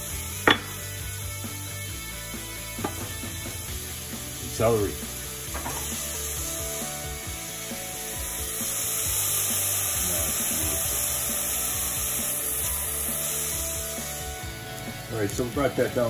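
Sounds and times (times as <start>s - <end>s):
vegetables sizzling in oil: 2.7s - 16.0s.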